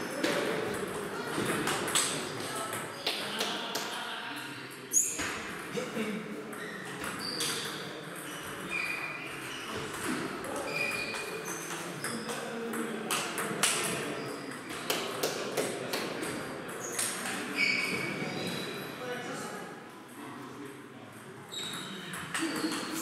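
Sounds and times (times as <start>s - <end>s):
table tennis rally: 0.0s - 23.0s.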